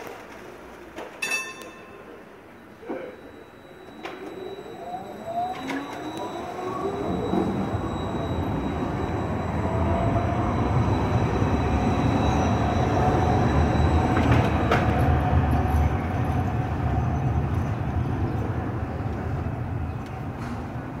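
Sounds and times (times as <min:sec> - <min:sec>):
tram passing on rails: 0:00.0 - 0:21.0.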